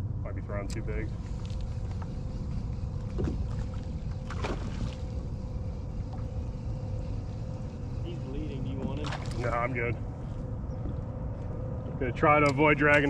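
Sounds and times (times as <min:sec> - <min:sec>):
faint steady hum: 0:00.0 - 0:13.0
wind rumbling on microphone: 0:00.0 - 0:13.0.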